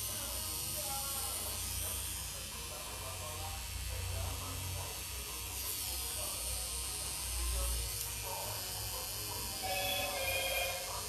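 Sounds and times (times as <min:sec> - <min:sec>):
tattoo machine buzzing: 0:00.0 - 0:11.0.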